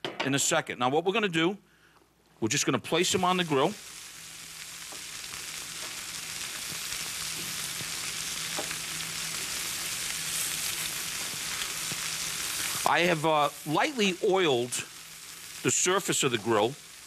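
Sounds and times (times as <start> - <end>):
burger patties sizzling on grill: 2.4 - 17.0.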